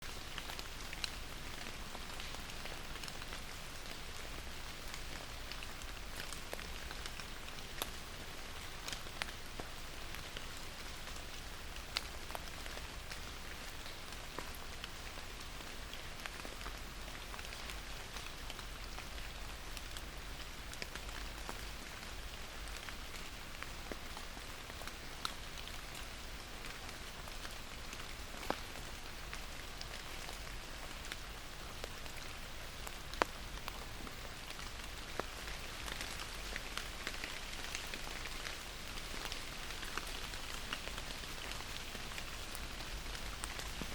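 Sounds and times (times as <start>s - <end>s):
raindrops ticking close by: 0.0s - 43.9s
steady rain falling: 0.0s - 43.9s.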